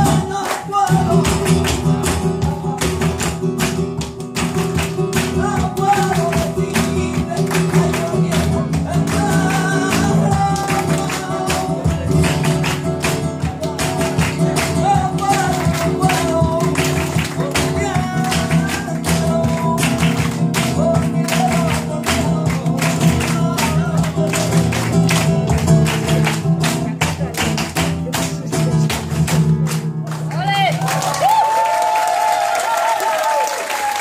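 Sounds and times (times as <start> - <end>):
man singing: 0.0 - 3.8, 4.8 - 29.5
acoustic guitar strumming: 0.0 - 30.3
sharp hand-clapping: 0.0 - 34.0.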